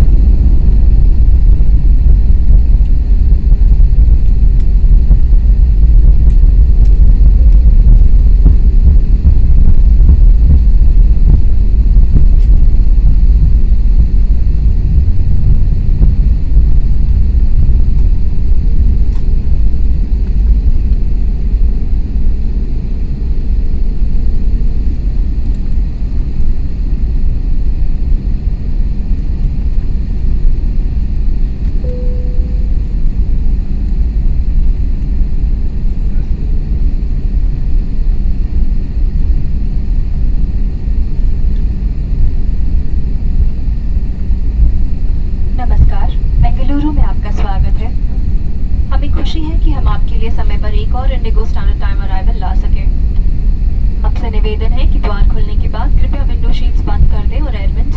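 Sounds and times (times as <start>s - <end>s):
airplane cabin rumble on runway: 0.0s - 57.9s.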